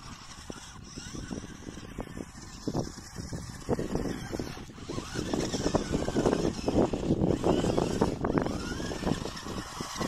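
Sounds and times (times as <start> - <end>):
electric motor and gear whine: 0.0 - 10.0.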